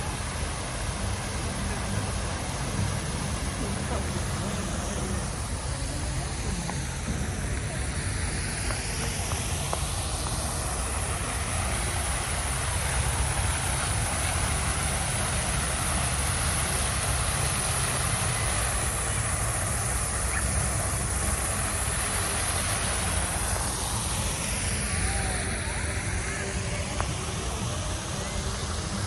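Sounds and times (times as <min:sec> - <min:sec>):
continuous low rumble: 0:00.0 - 0:29.0
fountain water splashing into pond: 0:00.0 - 0:29.0.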